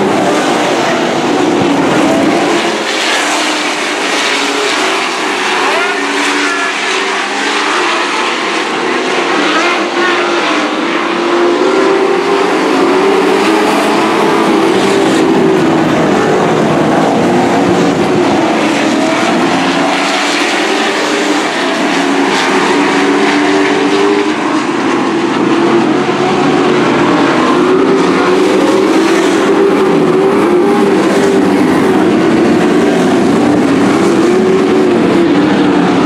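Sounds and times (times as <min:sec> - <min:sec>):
racing truck engines droning: 0:00.0 - 0:36.0.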